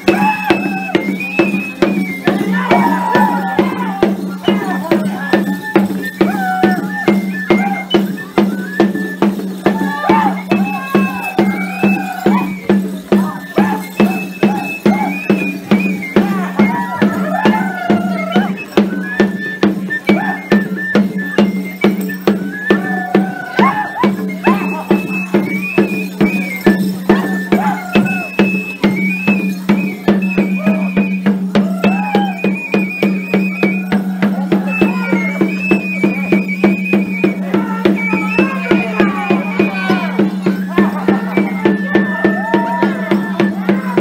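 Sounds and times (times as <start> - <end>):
percussion beat: 0.0 - 44.0
whistle-like wind melody: 0.0 - 44.0.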